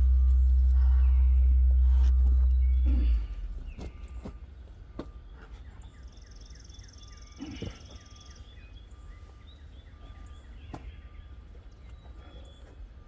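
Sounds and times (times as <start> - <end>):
birds chirping and trilling: 0.0 - 13.0
steady low rumble: 0.0 - 13.0.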